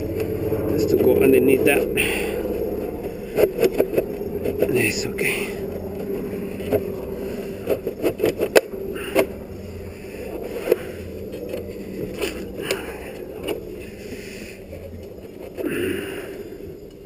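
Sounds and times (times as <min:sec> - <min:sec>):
plastic scraping: 0:00.0 - 0:17.0
steady low hum: 0:00.0 - 0:17.0.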